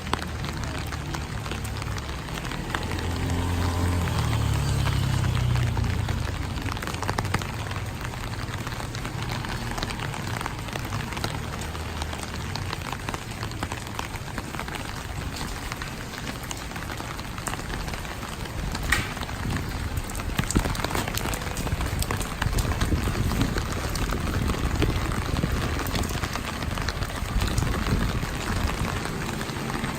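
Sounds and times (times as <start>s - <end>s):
steady rainfall: 0.0s - 29.9s.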